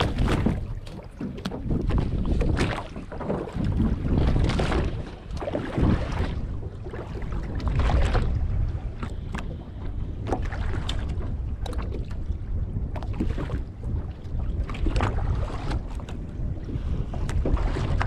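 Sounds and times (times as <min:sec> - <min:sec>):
water slapping against hull: 0:00.0 - 0:18.0
wind buffeting microphone: 0:00.0 - 0:18.0.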